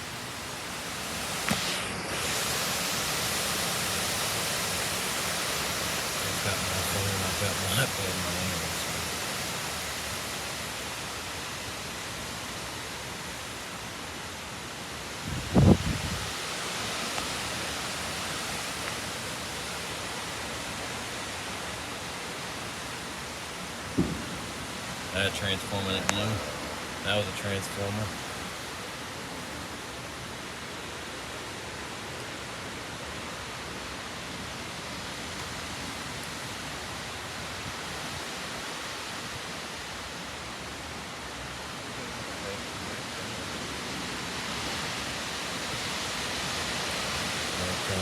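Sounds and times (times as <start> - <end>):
rain: 0.0 - 48.0
wind: 0.0 - 48.0.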